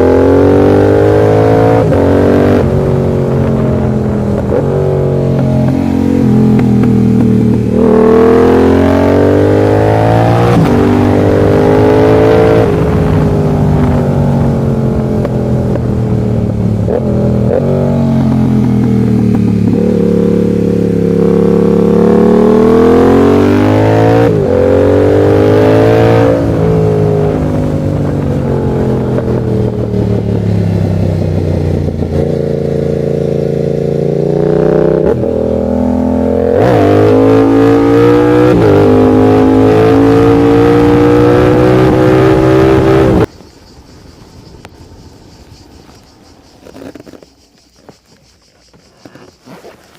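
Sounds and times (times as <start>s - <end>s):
motorcycle engine revving: 0.0s - 43.4s.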